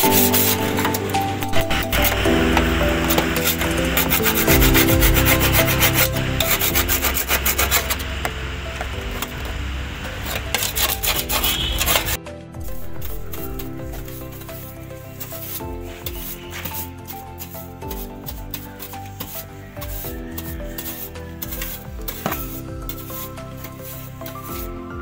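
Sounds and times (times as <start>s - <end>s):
hand sanding rusty metal: 0.0s - 9.3s, 10.2s - 12.2s, 12.8s - 24.7s
background music: 0.0s - 25.0s.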